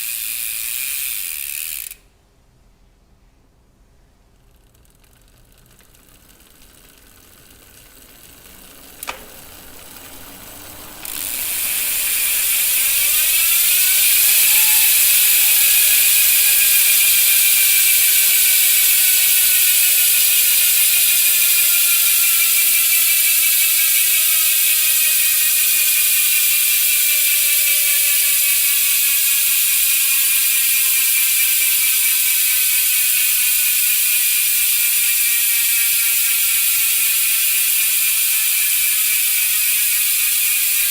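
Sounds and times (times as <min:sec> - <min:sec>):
bicycle freehub ratcheting buzz: 0:00.0 - 0:02.1, 0:04.4 - 0:40.9.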